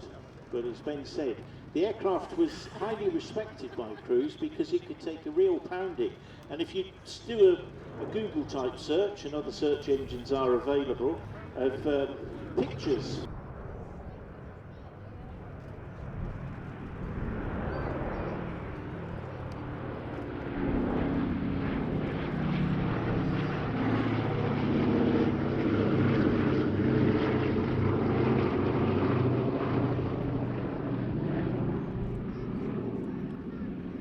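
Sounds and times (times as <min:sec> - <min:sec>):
propeller plane engines droning: 0:00.0 - 0:34.0.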